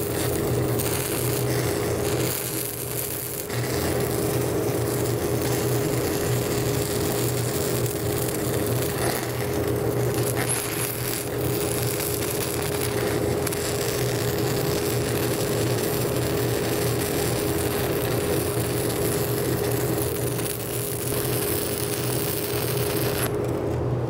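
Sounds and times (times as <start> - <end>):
welding arc burning: 0.0 - 23.8
steady hum: 0.0 - 24.0.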